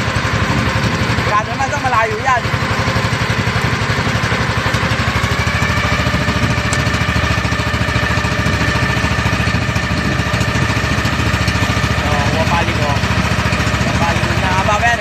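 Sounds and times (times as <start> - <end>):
boat engine puttering: 0.0 - 15.0.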